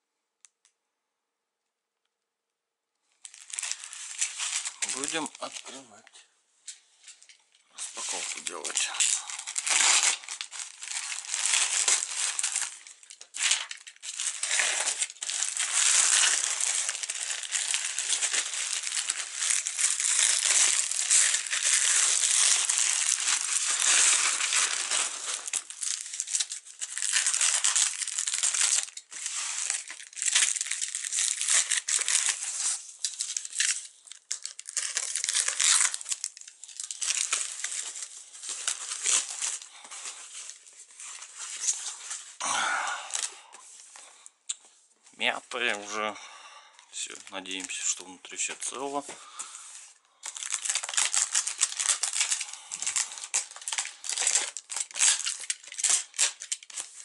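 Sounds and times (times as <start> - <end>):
plastic and foam packaging crinkling: 3.0 - 46.2, 46.8 - 57.0.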